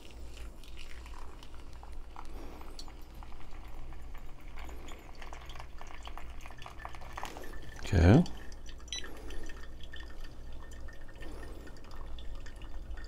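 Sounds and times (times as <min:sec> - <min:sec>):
water trickling onto coffee: 0:00.0 - 0:13.0.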